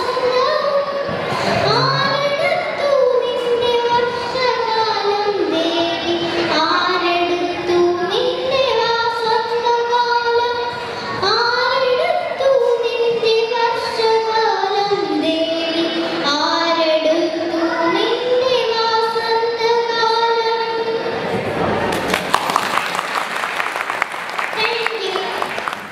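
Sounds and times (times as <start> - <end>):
girl singing into a microphone: 0.0 - 21.1.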